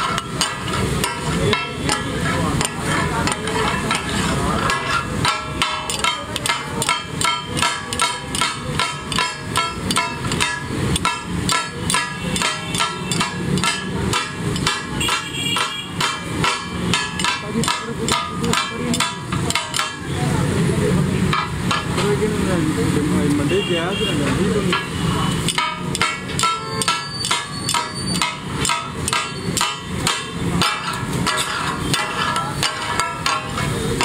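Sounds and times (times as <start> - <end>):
metal spatulas clanking on griddle: 0.0 - 20.3, 21.2 - 22.2, 24.3 - 34.0.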